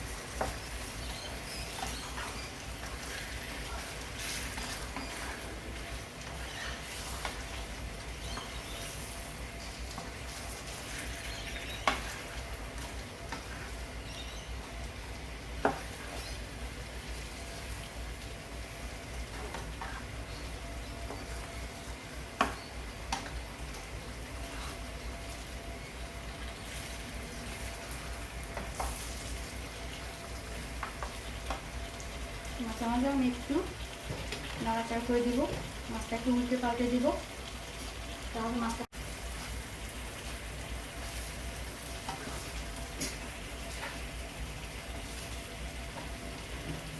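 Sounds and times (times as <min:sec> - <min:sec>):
fish sizzling in oil: 0:00.0 - 0:46.9.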